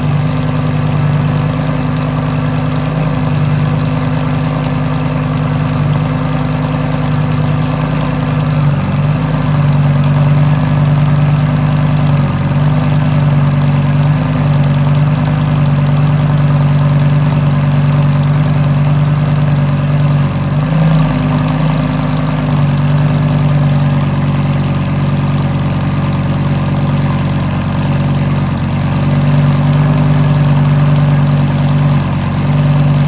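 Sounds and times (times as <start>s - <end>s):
sports car engine idling: 0.0s - 33.0s.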